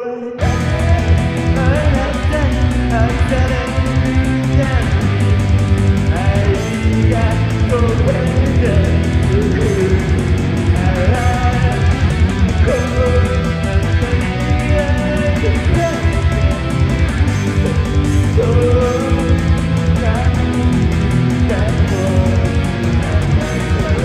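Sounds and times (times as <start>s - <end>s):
distorted electric guitar: 0.1s - 24.0s
bass guitar: 0.3s - 24.0s
bending melody line: 0.3s - 24.0s
drums with cymbal hits: 0.4s - 24.0s.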